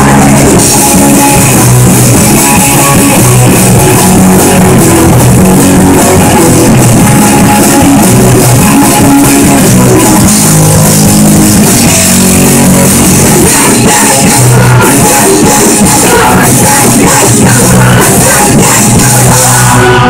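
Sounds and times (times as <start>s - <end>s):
distorted electric guitars: 0.0s - 20.0s
drum kit with cymbals: 0.0s - 20.0s.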